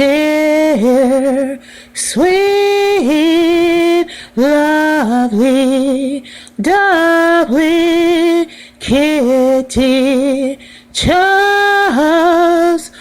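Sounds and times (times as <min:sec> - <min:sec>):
woman singing a cappella: 0:00.0 - 0:13.0.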